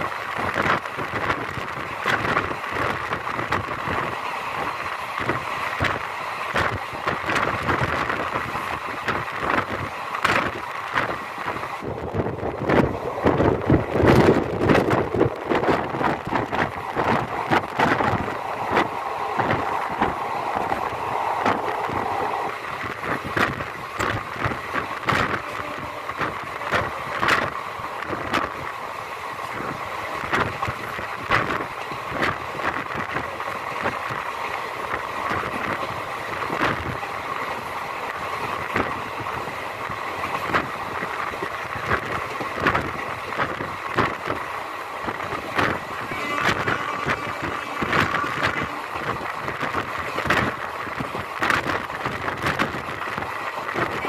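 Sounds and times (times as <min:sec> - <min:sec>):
wheels clacking and knocking: 0:00.0 - 0:28.8, 0:29.4 - 0:54.0
train rushing rumble: 0:00.0 - 0:54.0.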